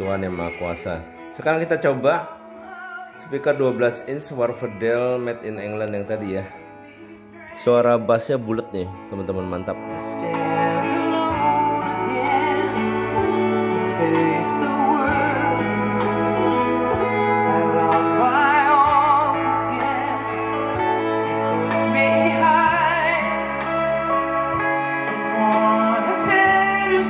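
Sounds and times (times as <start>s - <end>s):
song with vibrato vocals: 0.0s - 27.0s.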